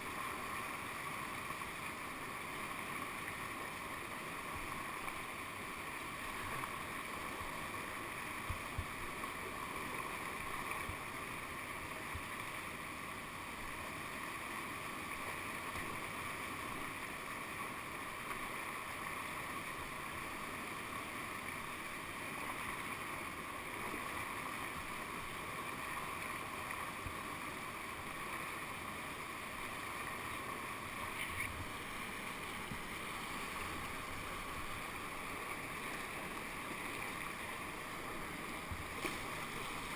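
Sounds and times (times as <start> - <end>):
rushing whitewater: 0.0 - 39.9.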